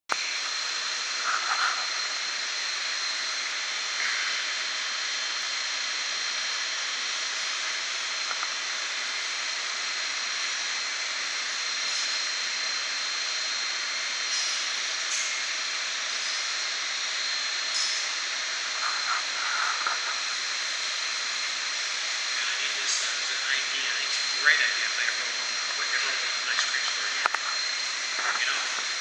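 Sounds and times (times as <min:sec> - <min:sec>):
faint high whine: 0:00.1 - 0:29.0
rushing fan noise: 0:00.1 - 0:29.0.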